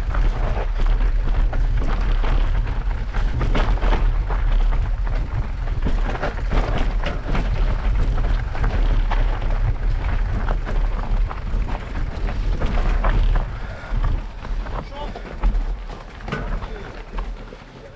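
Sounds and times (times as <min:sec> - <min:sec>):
wind rumble on microphone: 0:00.0 - 0:17.4
bike clicks and knocks on rough ground: 0:00.0 - 0:17.9.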